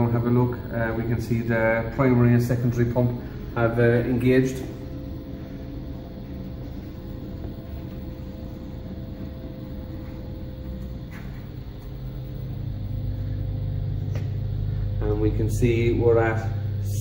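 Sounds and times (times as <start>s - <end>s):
circulating pumps humming: 0.0s - 17.0s.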